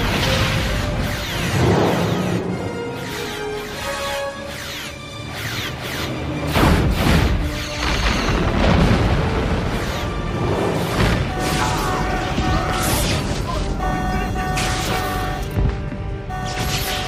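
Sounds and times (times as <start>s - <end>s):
dramatic music: 0.0s - 17.0s.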